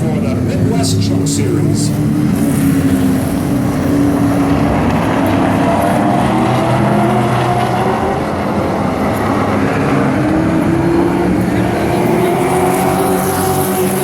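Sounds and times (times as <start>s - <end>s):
race truck engines droning: 0.0s - 14.0s.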